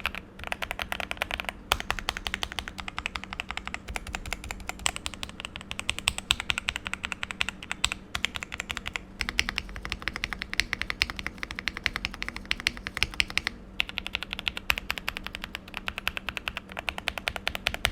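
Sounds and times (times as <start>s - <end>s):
fast typing on mechanical keyboard: 0.0s - 17.9s.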